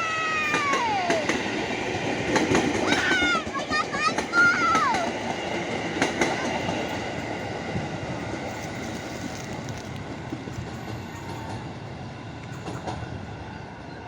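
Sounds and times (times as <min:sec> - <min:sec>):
electric train rumbling past: 0:00.0 - 0:14.0.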